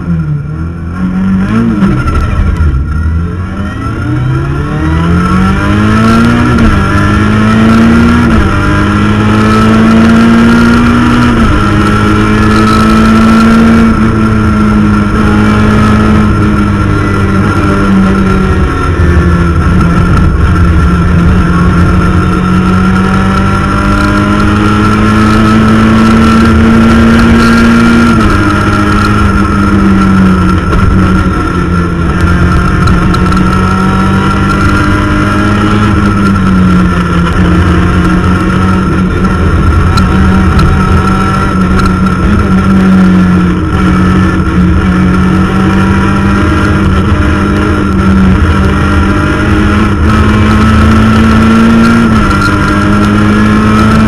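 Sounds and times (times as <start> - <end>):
high whine: 0.0 - 54.0
rally car engine revving: 0.0 - 54.0
road noise: 0.0 - 54.0.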